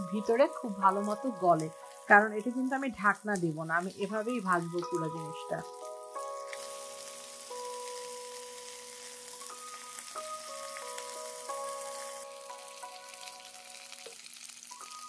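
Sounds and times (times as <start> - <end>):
food sizzling in oil: 0.0 - 15.0
soft background music: 0.0 - 15.0.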